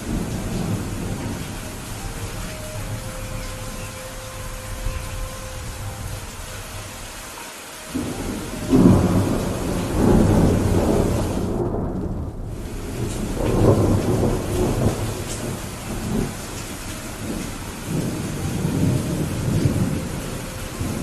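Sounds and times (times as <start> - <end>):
thunder rolling: 0.0 - 7.0, 7.9 - 21.0
heavy rain: 0.0 - 21.0.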